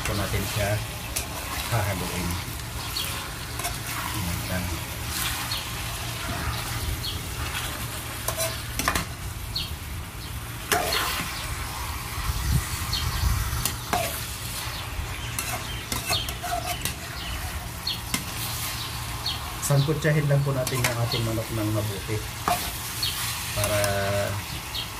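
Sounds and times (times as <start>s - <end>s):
metal spoon scraping a pan: 0.0s - 9.2s, 10.7s - 19.0s, 20.4s - 24.3s
chicken sizzling in oil: 0.0s - 24.9s.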